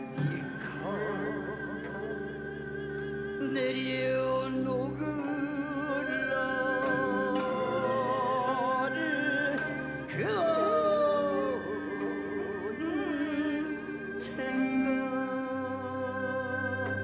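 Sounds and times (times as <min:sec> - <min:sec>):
instruments sustained notes: 0:00.0 - 0:17.0
man singing with vibrato: 0:00.0 - 0:17.0.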